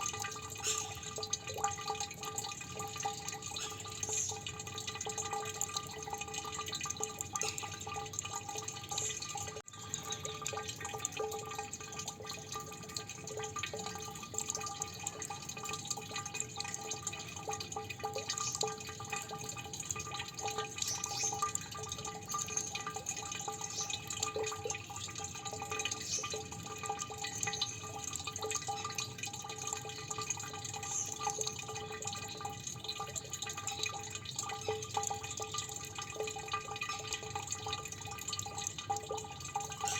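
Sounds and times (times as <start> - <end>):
water drops plinking into water: 0.0 - 39.9
water trickling: 0.0 - 39.9.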